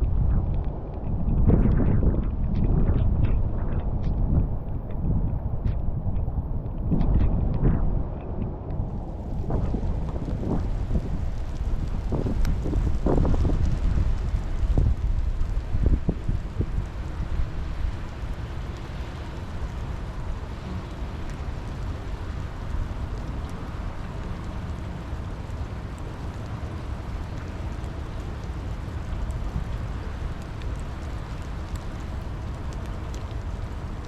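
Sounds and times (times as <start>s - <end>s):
low constant rumble: 0.0s - 34.0s
steady rain: 0.0s - 34.0s.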